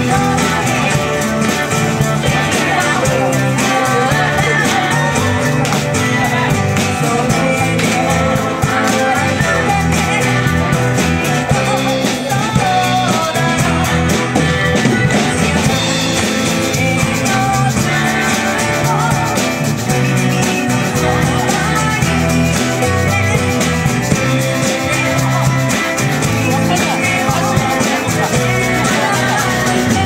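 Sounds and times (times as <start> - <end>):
live rock band: 0.0 - 30.0
voices singing together: 0.0 - 30.0.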